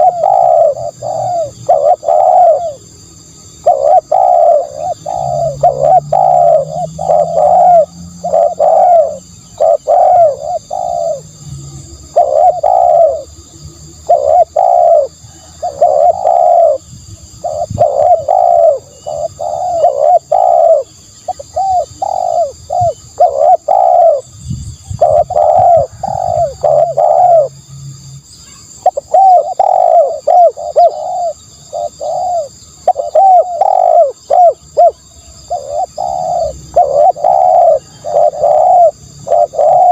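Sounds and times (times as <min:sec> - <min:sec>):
dove cooing: 0:00.0 - 0:27.6, 0:28.6 - 0:39.9.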